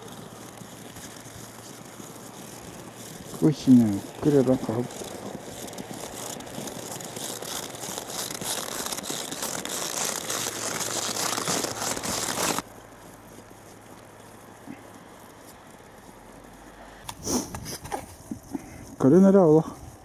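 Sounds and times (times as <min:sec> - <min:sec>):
hair rustling against microphone: 0:00.0 - 0:20.0.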